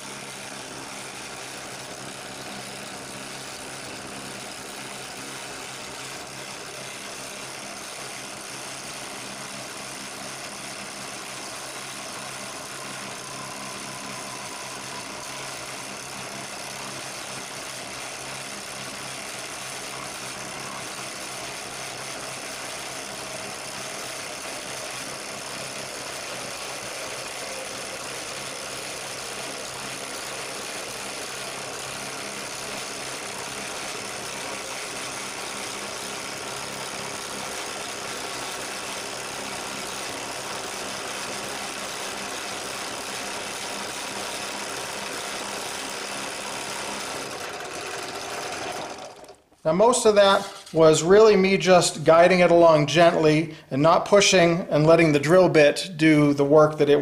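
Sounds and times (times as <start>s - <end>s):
drill press motor hum: 0.0s - 51.6s.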